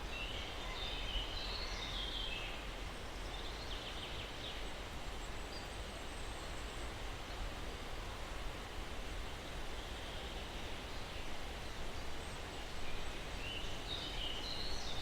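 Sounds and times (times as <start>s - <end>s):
breeze through trees: 0.0s - 15.0s.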